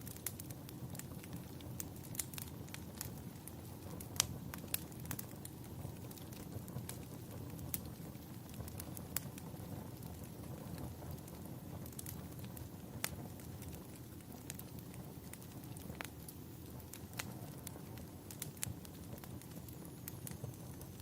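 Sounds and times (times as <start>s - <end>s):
low rumble of burning: 0.0s - 21.0s
wood fire popping and snapping: 0.0s - 21.0s.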